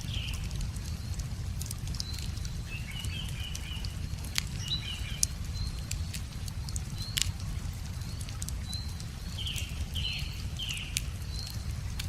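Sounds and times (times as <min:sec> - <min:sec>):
low steady rumble: 0:00.0 - 0:12.0
small birds chirping: 0:00.0 - 0:12.0
wood fire crackling and popping: 0:00.0 - 0:12.0.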